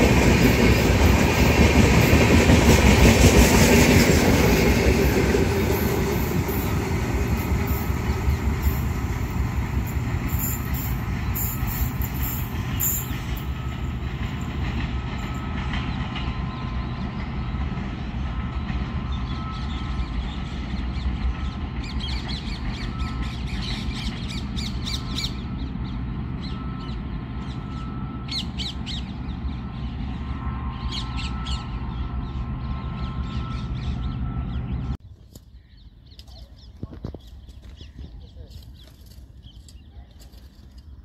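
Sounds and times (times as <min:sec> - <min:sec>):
train rattling: 0:00.0 - 0:35.0
train rumbling past: 0:00.0 - 0:35.0.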